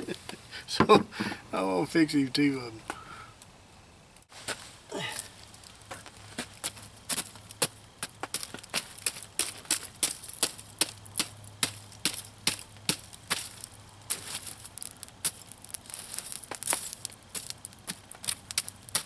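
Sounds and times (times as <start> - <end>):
campfire crackling and popping: 2.9 - 19.0.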